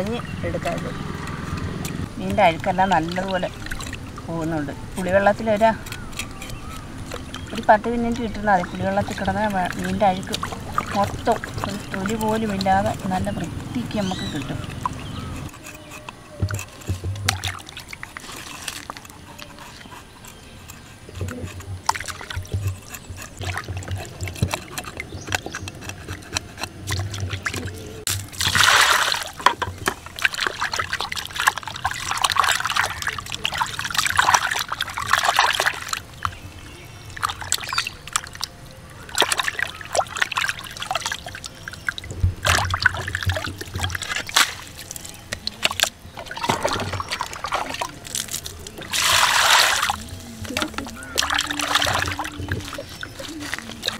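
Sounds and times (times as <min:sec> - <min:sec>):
water sloshing and splashing: 0:00.0 - 0:53.9.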